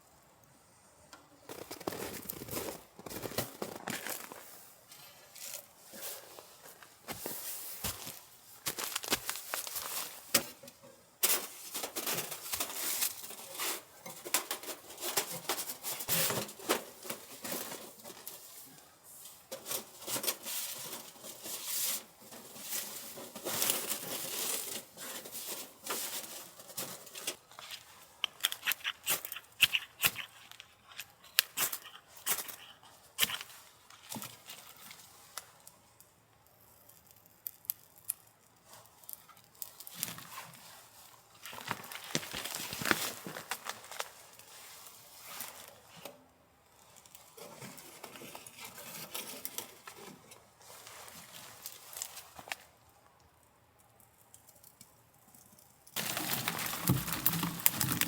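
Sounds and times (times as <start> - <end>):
crinkling and tearing handling: 1.5 - 18.6, 19.2 - 46.2, 46.8 - 52.8, 53.9 - 58.0.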